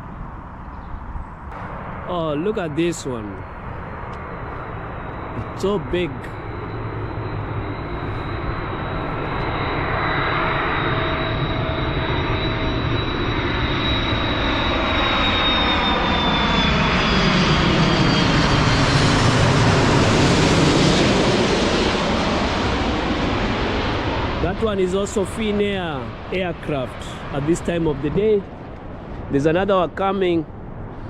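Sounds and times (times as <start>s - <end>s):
jet airliner engines rumbling: 0.0s - 31.0s
high thin jet whine: 1.5s - 31.0s.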